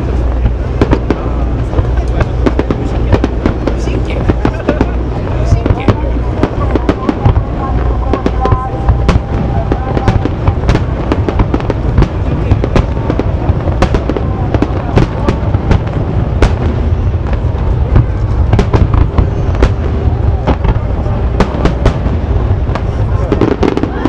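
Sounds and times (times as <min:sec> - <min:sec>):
low rumble of booms: 0:00.0 - 0:24.0.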